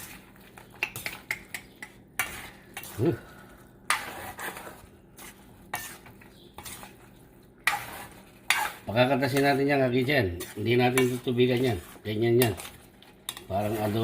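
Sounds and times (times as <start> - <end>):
utensil scraping a pan: 0.0 - 1.2, 1.8 - 14.0
light sizzle: 0.0 - 14.0.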